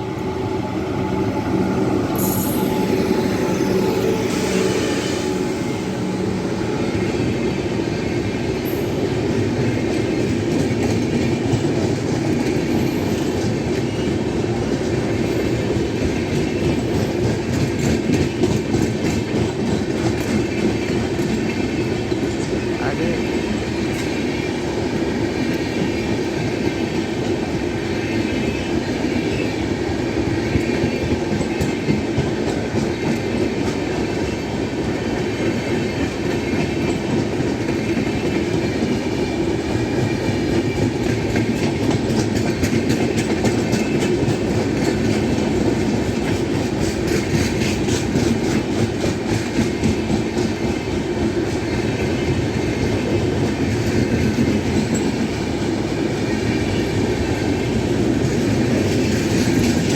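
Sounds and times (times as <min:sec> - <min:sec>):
train rumbling past: 0:00.0 - 0:59.9
train wheels clickety-clack: 0:00.0 - 0:59.9.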